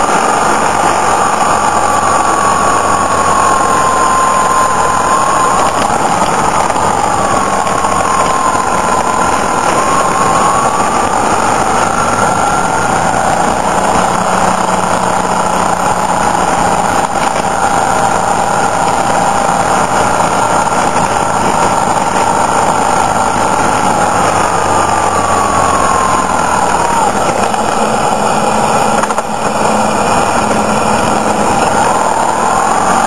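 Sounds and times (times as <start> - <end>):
wind and road noise: 0.0 - 33.0.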